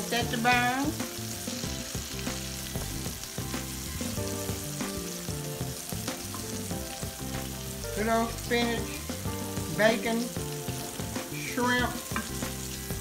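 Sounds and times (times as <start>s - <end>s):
fish frying in hot grease: 0.0s - 13.0s.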